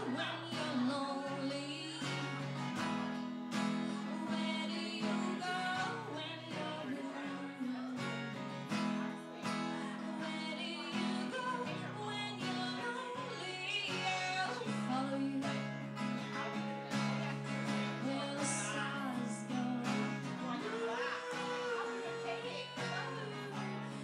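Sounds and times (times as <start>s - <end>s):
woman singing: 0.0s - 16.3s, 17.7s - 24.0s
acoustic guitar strumming: 0.0s - 24.0s.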